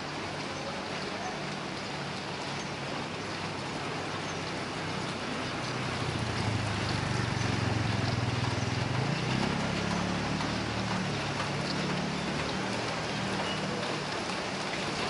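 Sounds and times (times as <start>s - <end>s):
rain on a wet street: 0.0s - 15.0s.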